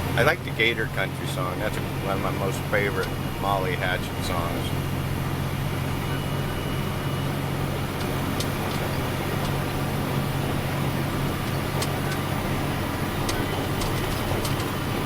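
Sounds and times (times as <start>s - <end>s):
plow pushing through snow: 0.0s - 15.0s
truck engine droning under load: 0.0s - 15.0s.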